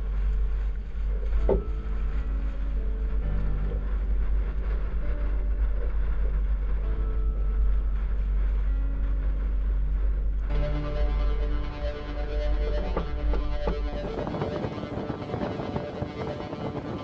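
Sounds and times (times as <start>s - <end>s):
music: 0.0s - 17.0s
water rushing along hull: 0.0s - 17.0s
wind buffeting microphone: 0.0s - 17.0s.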